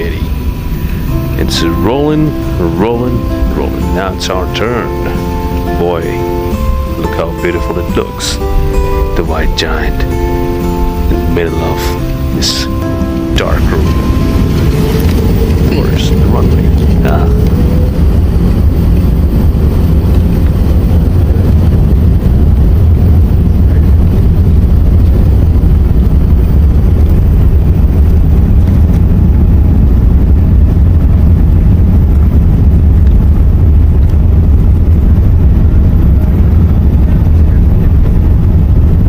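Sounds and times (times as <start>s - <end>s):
deep rumble of jet engines: 0.0s - 39.0s.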